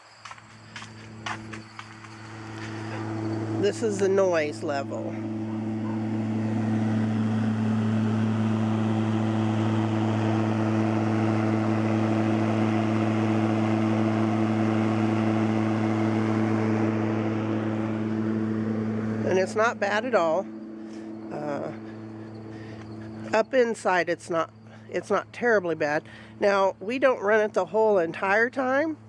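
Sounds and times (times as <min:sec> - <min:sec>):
exhaust fan motor hum: 0:00.2 - 0:29.0.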